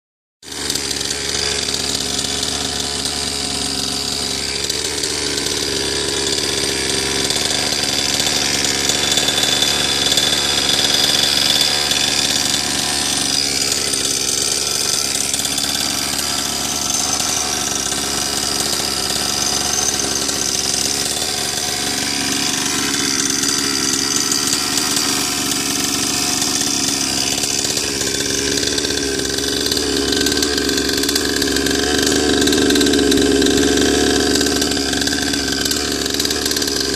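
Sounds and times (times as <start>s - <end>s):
two-stroke engine idling: 0.4s - 36.9s.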